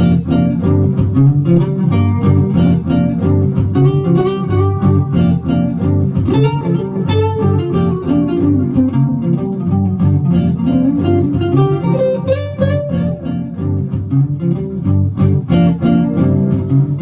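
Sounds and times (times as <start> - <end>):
electric guitar playing blues: 0.0 - 17.0.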